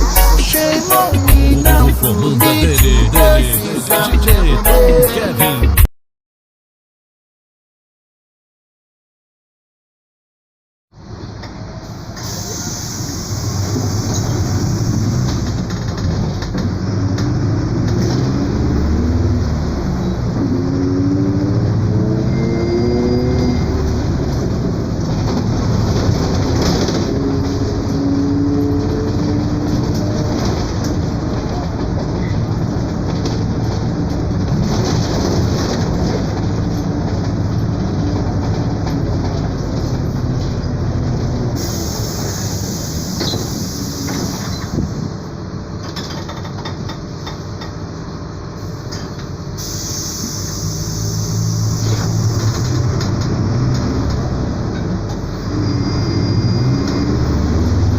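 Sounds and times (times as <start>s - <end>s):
diesel bus engine running: 0.0s - 5.9s, 11.0s - 57.9s
road noise: 0.0s - 5.9s, 10.9s - 57.9s.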